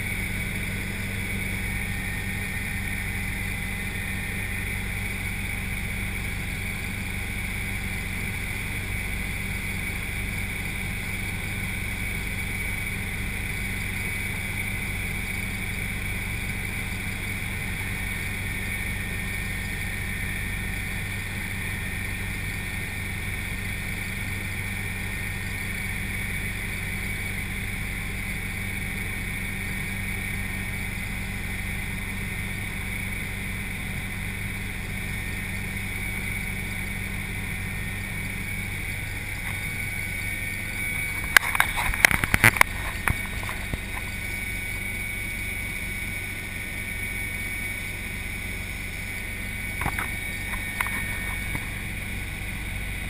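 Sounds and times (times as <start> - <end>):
helicopter engine and rotor drone: 0.0 - 53.0
high whine: 0.0 - 53.0.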